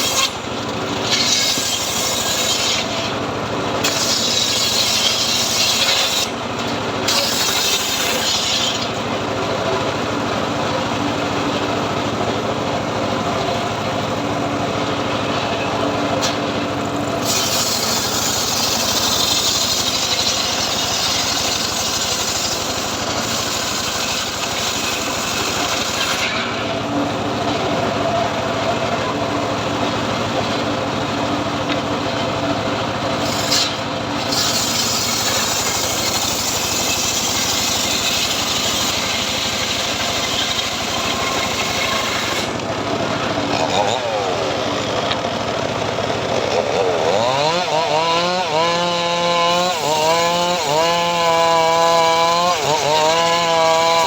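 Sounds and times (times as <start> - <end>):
engine running: 0.0 - 54.0
saw cutting wood: 0.0 - 54.0.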